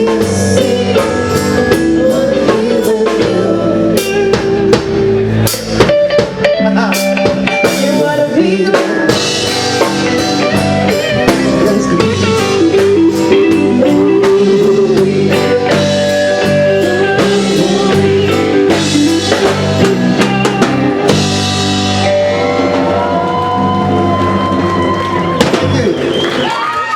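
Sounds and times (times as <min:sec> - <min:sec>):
person singing: 0:00.0 - 0:24.6
guitar playing: 0:00.0 - 0:25.9
drum kit: 0:00.0 - 0:26.8.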